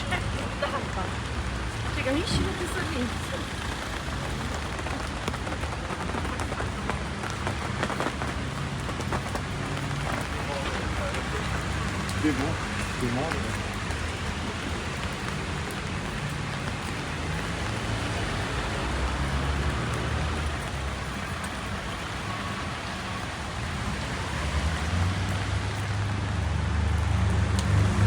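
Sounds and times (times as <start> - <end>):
rain falling on street: 0.0 - 28.0
traffic rumble: 0.0 - 28.0.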